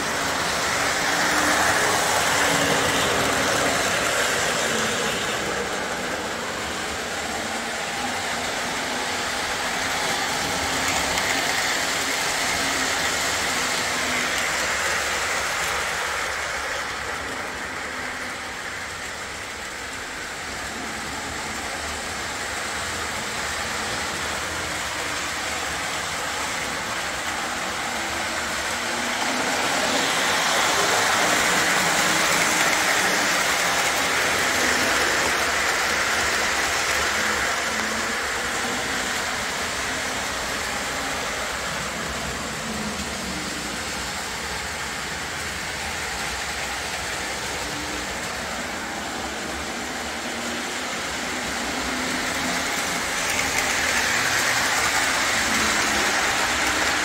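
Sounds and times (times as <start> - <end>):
model train wheels whirring: 0.0 - 57.0.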